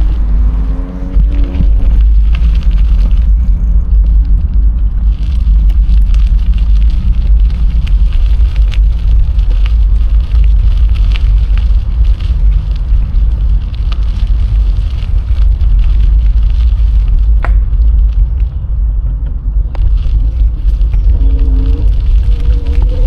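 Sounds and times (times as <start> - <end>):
crackles and ticks: 0.0 - 23.0
wind buffeting microphone: 0.0 - 23.0.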